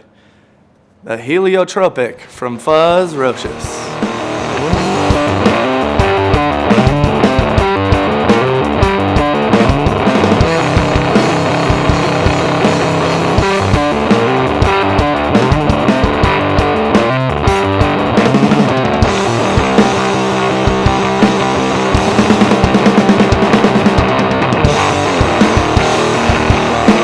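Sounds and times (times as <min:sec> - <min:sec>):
drum kit playing: 0:03.0 - 0:27.0
fuzzed bass riff: 0:03.0 - 0:27.0.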